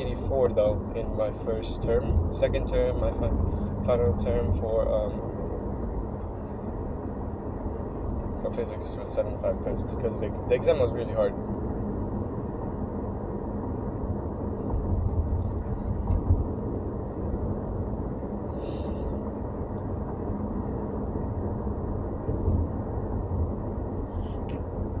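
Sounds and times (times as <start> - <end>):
engine and tyres rumbling on road: 0.0 - 25.0.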